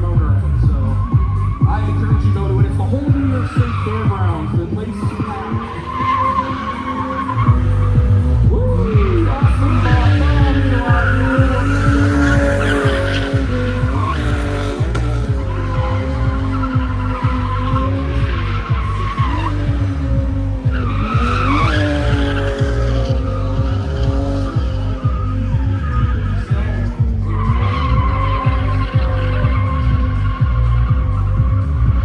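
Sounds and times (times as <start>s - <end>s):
car engine revving: 0.0s - 32.0s
loud music with bass beat: 0.0s - 32.0s
tyres squealing: 0.0s - 32.0s.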